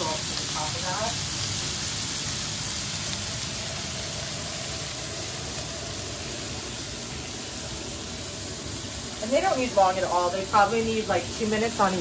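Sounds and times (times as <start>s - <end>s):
shrimp sizzling on hot plate: 0.0s - 12.0s.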